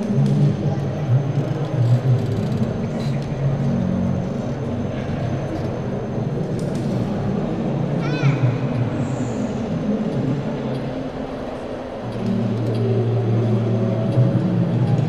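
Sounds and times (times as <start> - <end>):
ambient electronic drone: 0.0 - 15.0.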